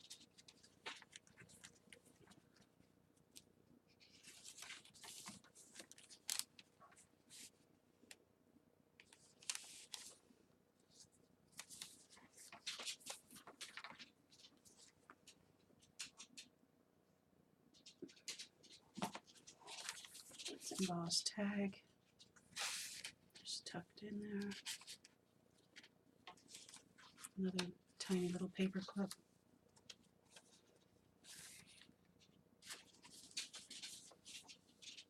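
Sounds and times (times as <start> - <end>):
paper rustling and crinkling: 0.0 - 7.6, 9.0 - 10.2, 10.9 - 16.5, 17.8 - 21.2, 22.1 - 23.4, 24.4 - 29.2, 29.8 - 35.0.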